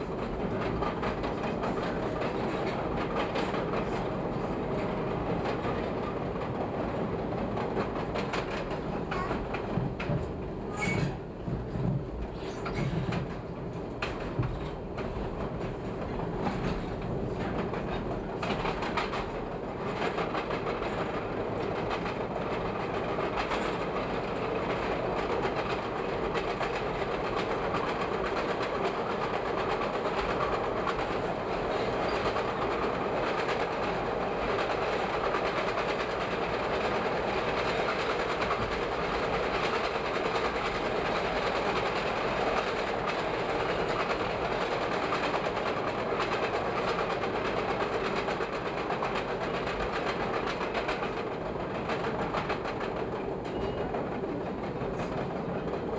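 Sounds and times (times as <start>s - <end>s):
train rolling rumble: 0.0s - 55.9s
train wheels clacking over joints: 0.0s - 55.9s.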